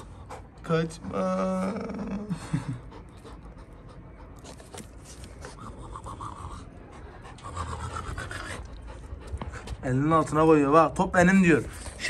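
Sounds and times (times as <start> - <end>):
dog panting: 0.0 - 10.4.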